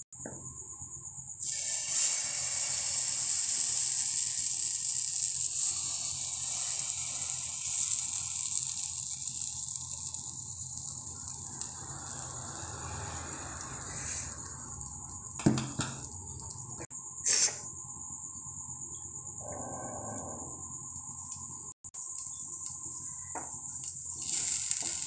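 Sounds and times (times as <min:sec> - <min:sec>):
batter sizzling on hot griddle: 0:01.4 - 0:17.4, 0:21.0 - 0:25.0.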